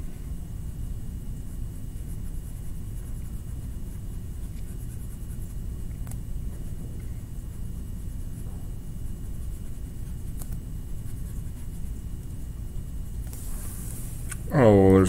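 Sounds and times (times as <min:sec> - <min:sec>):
colouring strokes on paper: 0:00.8 - 0:14.2.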